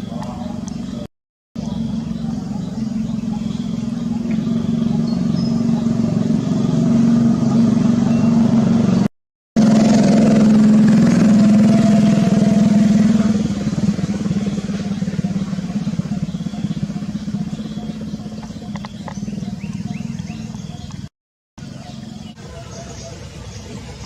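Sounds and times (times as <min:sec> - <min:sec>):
engine-like hum: 0:00.0 - 0:24.0.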